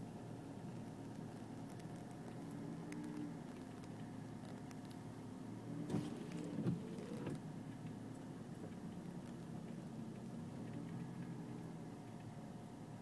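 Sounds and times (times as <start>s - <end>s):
car engine and tyre hum: 0.0s - 13.0s.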